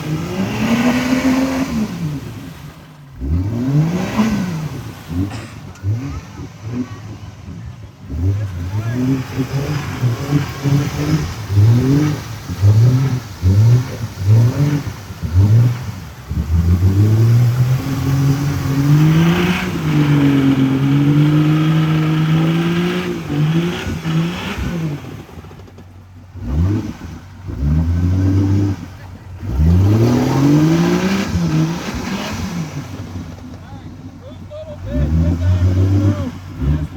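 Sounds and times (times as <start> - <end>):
truck engine revving hard: 0.0 - 36.9.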